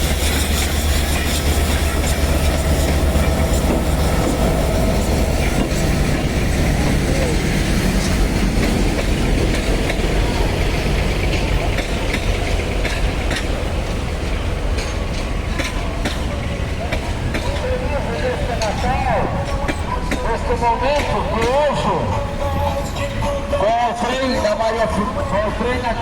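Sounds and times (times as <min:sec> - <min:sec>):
wheels clicking over rail joints: 0:00.0 - 0:25.9
train rumbling past: 0:00.0 - 0:26.0.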